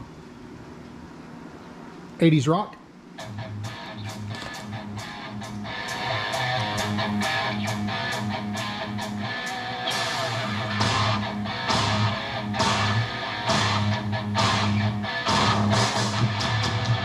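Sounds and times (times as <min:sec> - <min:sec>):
rock music from car speakers: 0:03.2 - 0:17.0.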